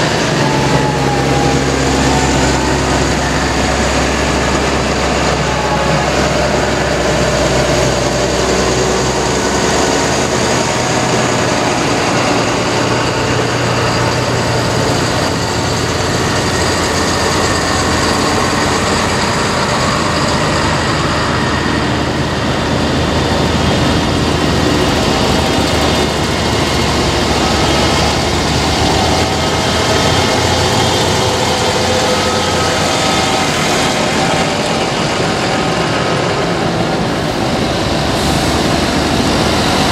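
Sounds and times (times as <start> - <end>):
tractor diesel engines passing: 0.0 - 39.9.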